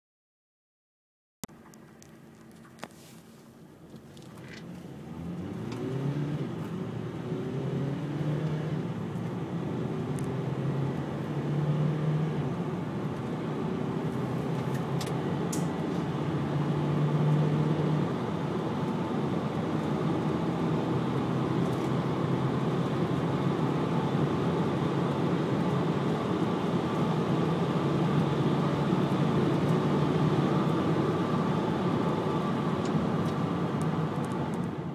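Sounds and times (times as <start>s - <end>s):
road noise: 1.5s - 34.9s
diesel engine accelerating: 3.7s - 34.9s.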